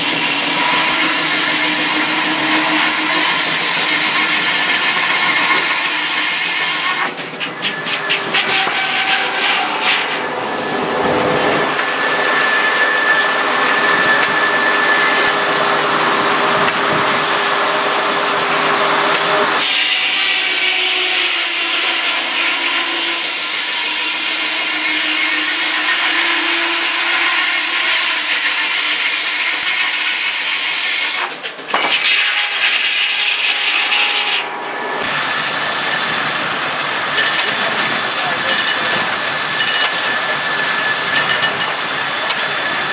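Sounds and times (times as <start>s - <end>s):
sawmill saw cutting wood: 0.0s - 42.9s.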